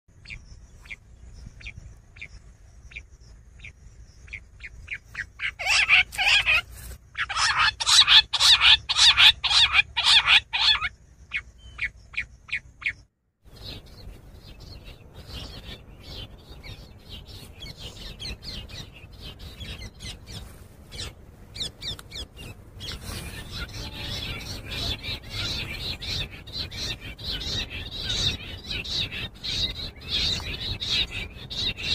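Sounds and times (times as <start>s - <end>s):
quail calling: 4.3s - 13.0s, 15.0s - 31.9s.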